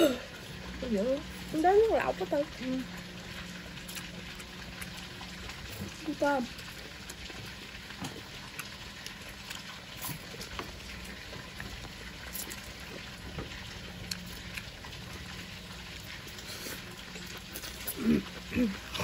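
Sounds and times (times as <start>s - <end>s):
people slurping and chewing: 2.9s - 19.0s.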